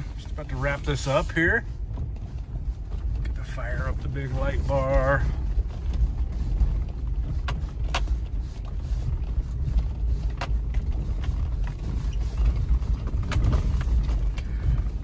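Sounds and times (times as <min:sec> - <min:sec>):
low rumble of engine and tyres: 0:00.0 - 0:15.0
vehicle body creaks and knocks: 0:00.0 - 0:15.0.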